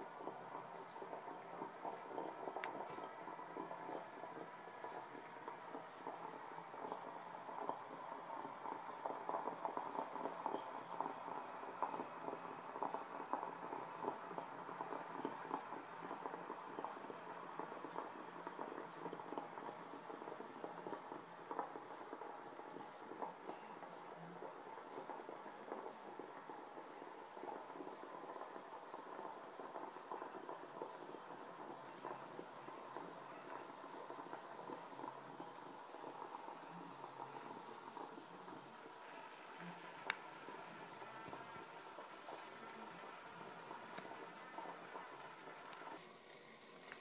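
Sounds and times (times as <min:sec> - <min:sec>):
crackle of water heating: 0:00.0 - 0:47.0.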